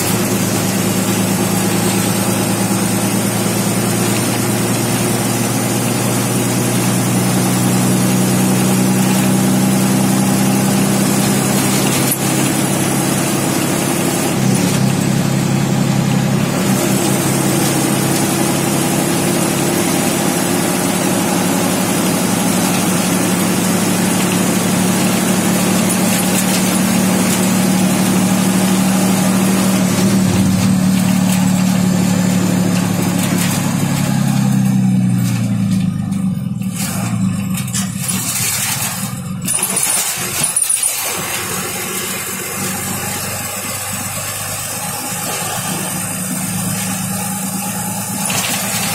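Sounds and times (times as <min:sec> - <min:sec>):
bus diesel engine drone: 0:00.0 - 0:48.9
road noise: 0:00.0 - 0:48.9.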